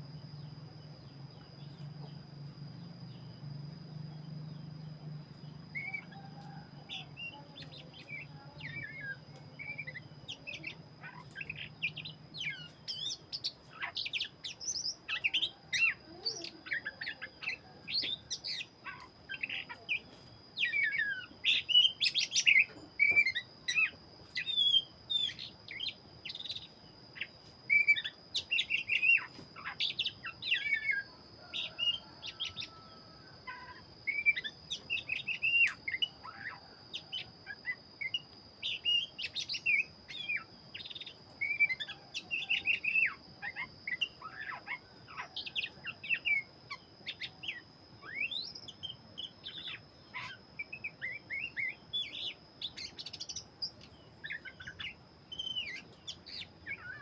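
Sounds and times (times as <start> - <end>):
songbird whistling song: 0.0 - 57.0.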